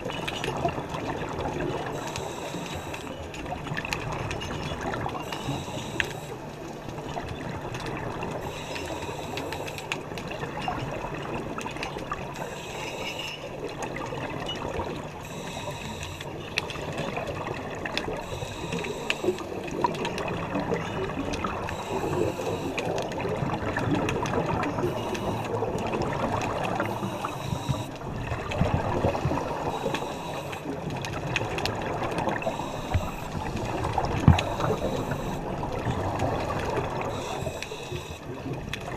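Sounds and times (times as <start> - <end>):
regulator bubbles gurgling underwater: 0.0 - 38.9
steady water noise: 0.0 - 38.9.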